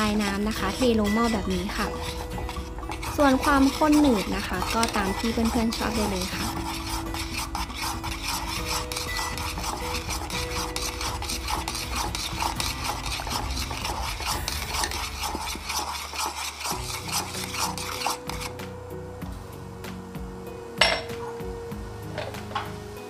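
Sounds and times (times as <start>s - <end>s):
spoon scraping metal saucepan: 0.0s - 18.8s.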